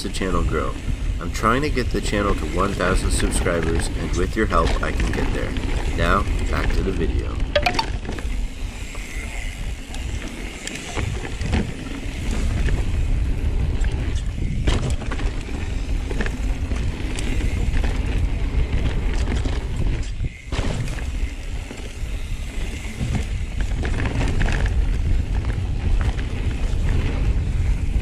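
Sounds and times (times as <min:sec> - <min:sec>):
bike clicking and rattling: 0:00.0 - 0:28.0
bike tyre and wind rumble: 0:00.0 - 0:28.0.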